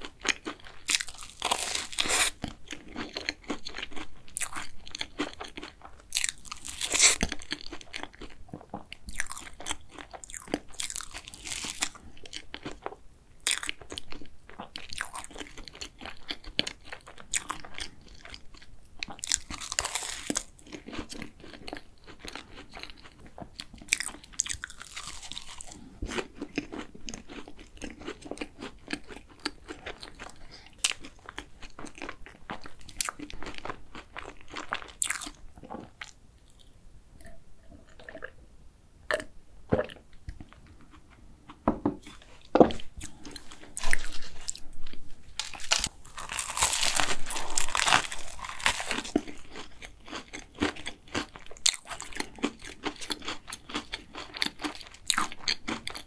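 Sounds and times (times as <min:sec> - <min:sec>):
crunching and chewing: 0:00.0 - 0:38.4, 0:39.1 - 0:56.0.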